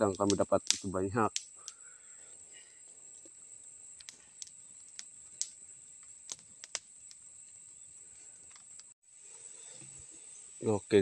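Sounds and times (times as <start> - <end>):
twigs cracking: 0.0 - 9.0
insects droning: 0.0 - 11.0.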